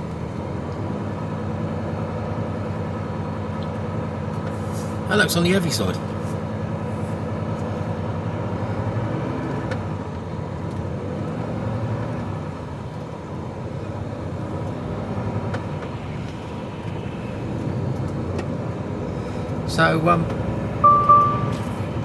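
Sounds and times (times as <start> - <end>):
lorry diesel engine running: 0.0 - 22.0.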